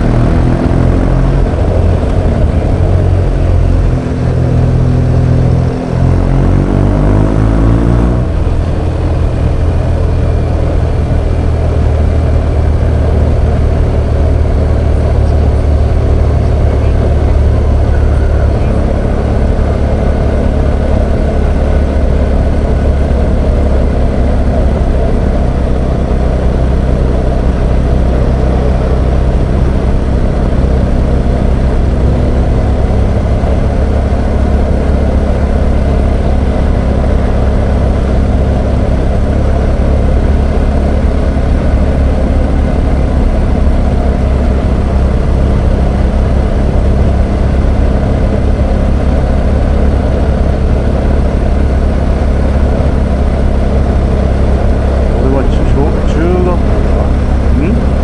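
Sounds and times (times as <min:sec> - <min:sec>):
motorcycle engine accelerating: 0:00.0 - 0:58.0
wind and road noise: 0:00.0 - 0:58.0.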